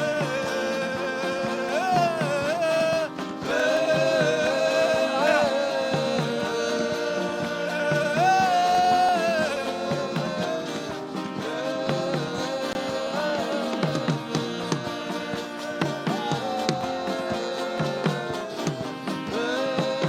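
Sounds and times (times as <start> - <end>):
soft steady beat: 0.0 - 20.0
wordless gospel melody: 0.0 - 20.0.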